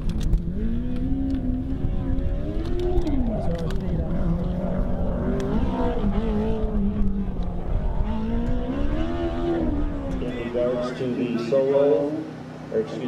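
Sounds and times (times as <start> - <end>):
race car engine passing: 0.0 - 12.8.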